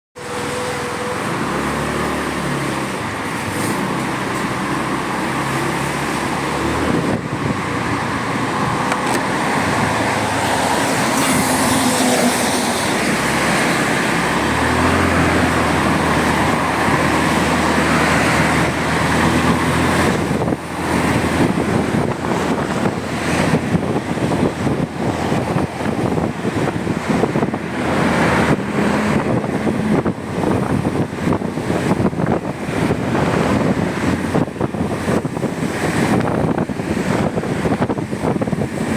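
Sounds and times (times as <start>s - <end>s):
road noise: 0.2s - 38.9s
wind buffeting microphone: 0.2s - 38.9s.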